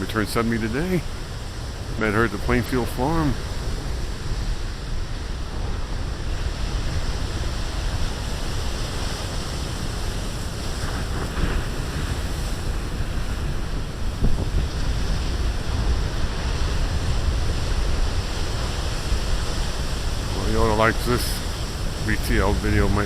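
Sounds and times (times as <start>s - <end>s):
ocean waves breaking: 0.0s - 23.0s
wind buffeting microphone: 0.0s - 23.0s.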